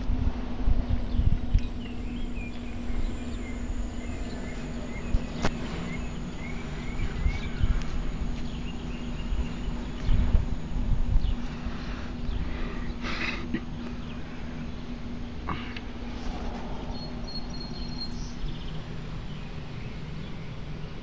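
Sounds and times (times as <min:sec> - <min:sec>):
low hum: 0:00.0 - 0:21.0
low rumbling noise: 0:00.0 - 0:21.0
small birds chirping: 0:00.0 - 0:21.0.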